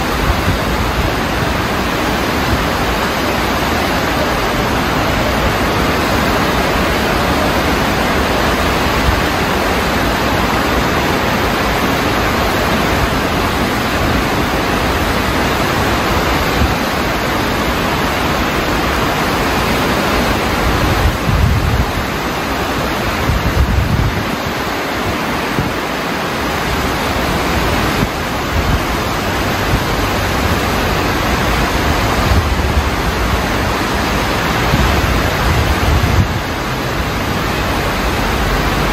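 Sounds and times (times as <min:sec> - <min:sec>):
stream rushing in flood: 0:00.0 - 0:38.9.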